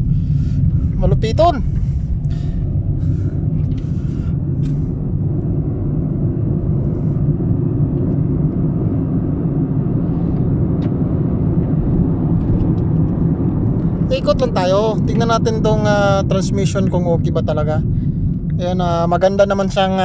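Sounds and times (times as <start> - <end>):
car cabin engine and road rumble: 0.0 - 20.0.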